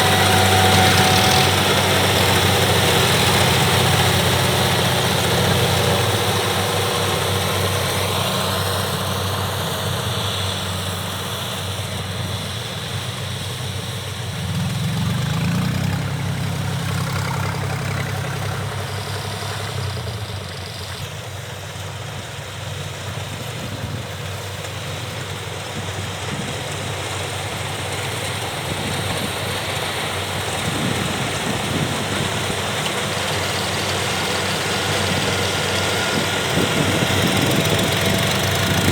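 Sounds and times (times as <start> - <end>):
combine harvester diesel engines: 0.0 - 38.9.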